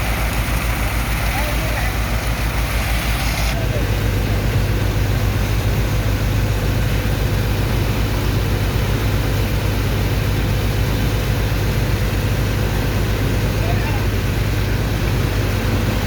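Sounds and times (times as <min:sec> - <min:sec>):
pump engine droning: 0:00.0 - 0:16.0.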